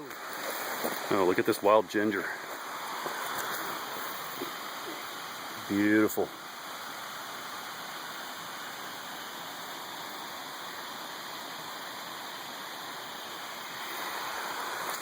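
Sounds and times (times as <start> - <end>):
creek and waterfall rushing: 0.0 - 15.0.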